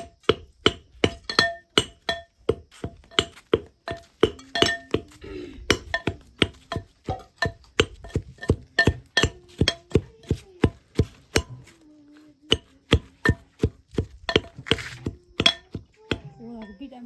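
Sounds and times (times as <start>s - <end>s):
pestle pounding in mortar: 0.0s - 11.8s, 12.4s - 17.0s.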